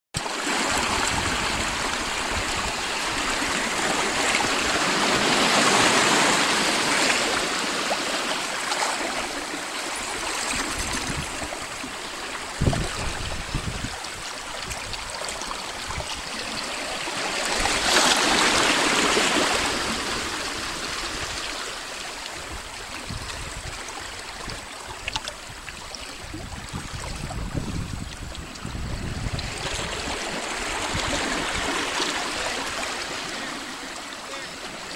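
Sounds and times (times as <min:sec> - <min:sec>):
small waves washing over rocks: 0:00.2 - 0:34.9.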